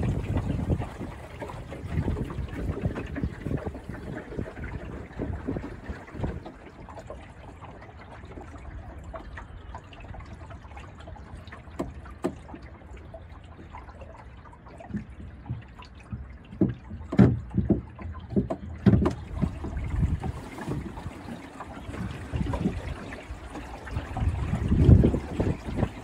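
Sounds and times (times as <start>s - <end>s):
low steady rumble: 0.0s - 26.0s
water splashing against hull: 0.0s - 26.0s.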